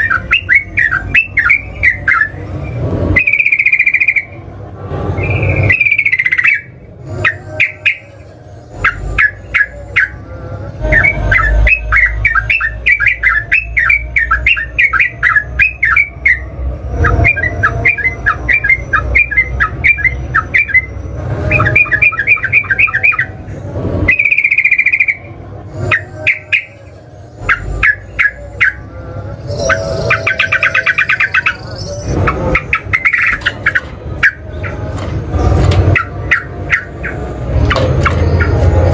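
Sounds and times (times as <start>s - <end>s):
bird chattering song: 0.0s - 4.4s, 5.2s - 10.2s, 10.8s - 23.4s, 24.1s - 28.8s, 29.4s - 34.9s, 35.9s - 38.9s.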